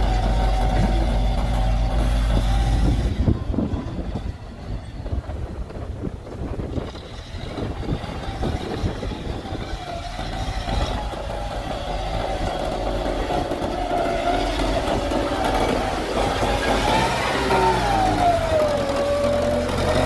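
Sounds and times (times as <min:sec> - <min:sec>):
tractor diesel engine clattering: 0:00.0 - 0:20.0.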